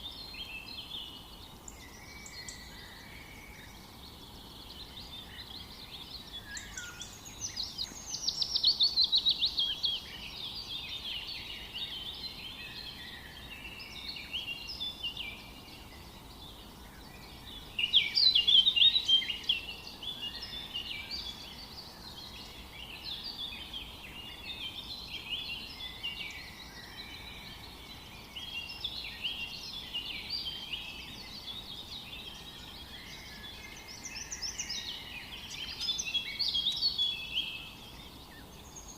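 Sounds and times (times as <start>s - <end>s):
faint hiss: 0.0s - 38.9s
rapid bird trilling song: 0.0s - 38.9s
songbirds singing: 0.0s - 38.9s.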